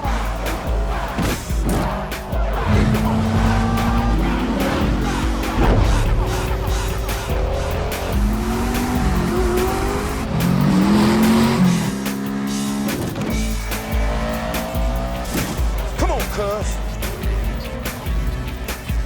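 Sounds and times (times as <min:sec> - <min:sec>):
action film music: 0:00.0 - 0:19.0
car engines revving: 0:00.0 - 0:19.0
tires squealing: 0:00.0 - 0:19.0.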